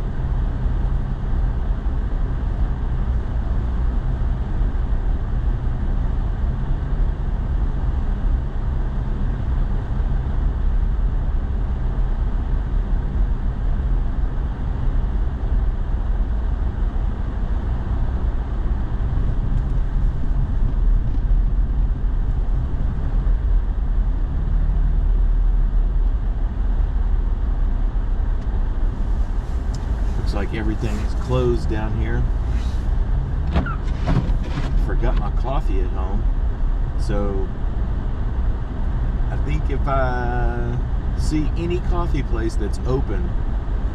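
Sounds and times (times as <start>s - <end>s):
engine hum and road rumble: 0.0s - 43.9s.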